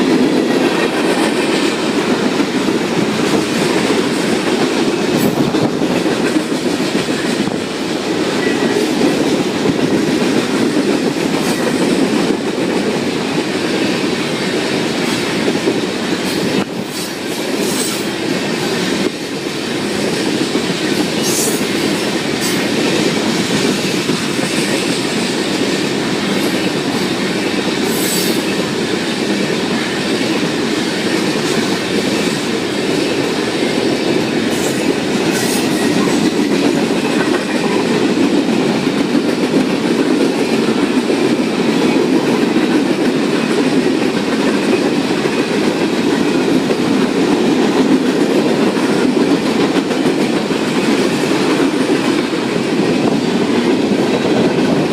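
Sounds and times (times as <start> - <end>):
train wheels clattering: 0.0 - 54.9.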